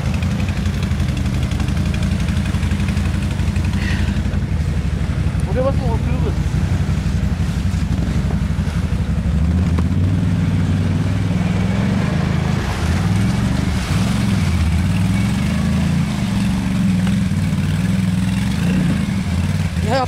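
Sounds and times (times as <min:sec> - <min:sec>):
quad engine revving: 0:00.0 - 0:20.0
water splashing: 0:00.0 - 0:20.0.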